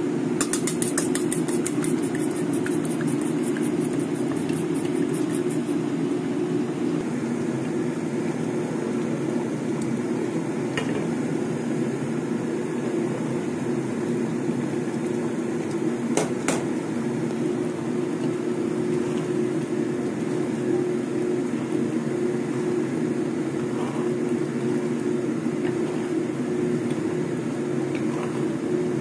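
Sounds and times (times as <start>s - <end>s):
low rushing kitchen noise: 0.0s - 29.0s.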